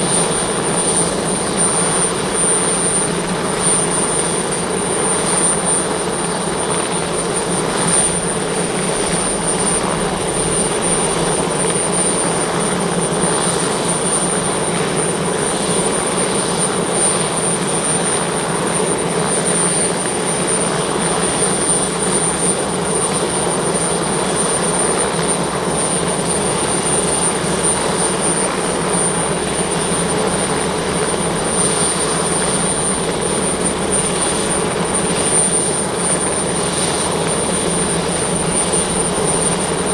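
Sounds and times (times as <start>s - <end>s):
helicopter rotor low rumble: 0.0s - 39.9s
helicopter turbine whine: 0.0s - 39.9s.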